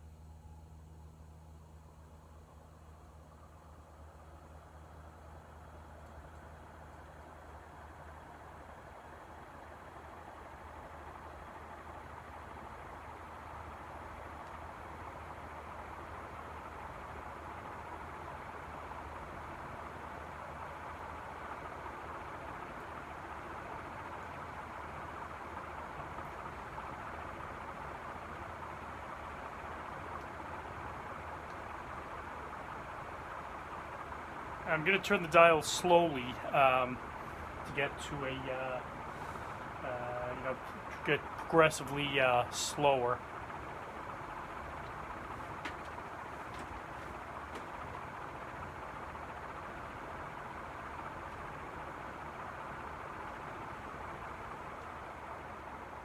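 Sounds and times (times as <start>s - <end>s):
low motor hum: 0.0s - 56.0s
ceiling fan air rush: 7.1s - 56.0s.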